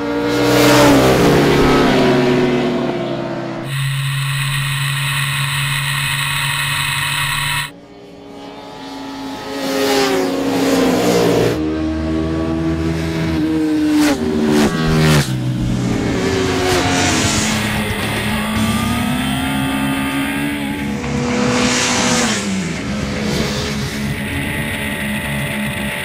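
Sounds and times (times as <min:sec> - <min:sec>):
motorcycle engine revving: 0:00.0 - 0:07.7, 0:08.6 - 0:26.0.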